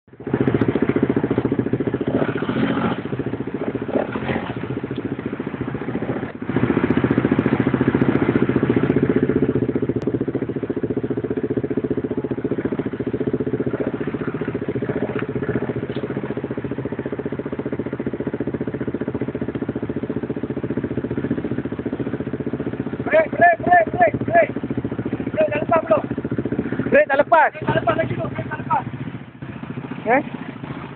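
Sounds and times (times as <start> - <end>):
atv engine running: 0.1 - 30.9.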